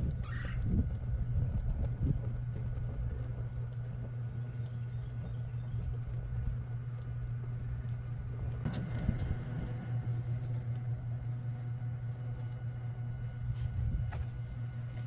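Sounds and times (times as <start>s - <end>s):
fire crackling: 0.0s - 15.0s
fire rumbling: 0.0s - 15.0s.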